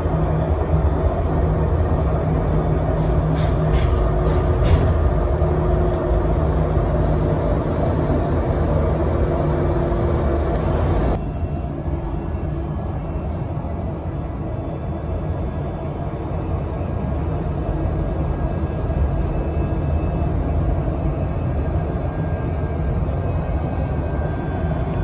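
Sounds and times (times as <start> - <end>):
bus cabin low rumble: 0.0 - 25.0.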